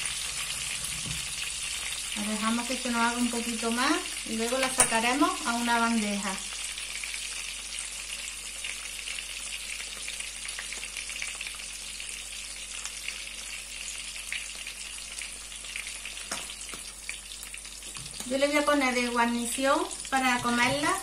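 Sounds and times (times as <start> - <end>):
fish frying in oil sizzling: 0.0 - 21.0.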